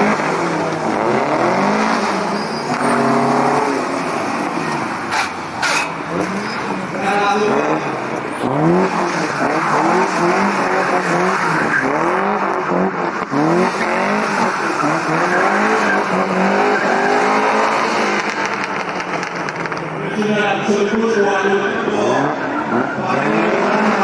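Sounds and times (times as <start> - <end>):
car engine revving: 0.0 - 20.8, 21.6 - 24.0
tyres skidding and squealing: 0.0 - 24.0.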